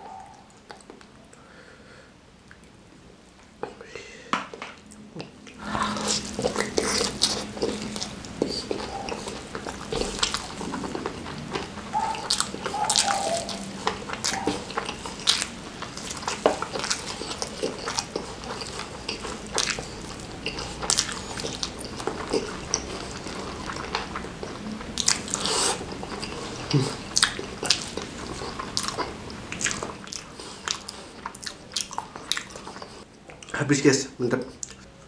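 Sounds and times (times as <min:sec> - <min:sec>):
chewing crispy fried chicken: 0:04.5 - 0:33.7.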